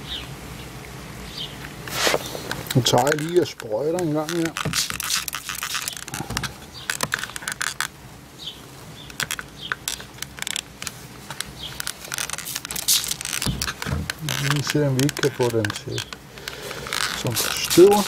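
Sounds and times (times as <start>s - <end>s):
bottle handling: 1.9s - 7.9s, 9.1s - 18.0s
spray bottle hissing spurts: 1.9s - 7.9s, 9.2s - 18.0s.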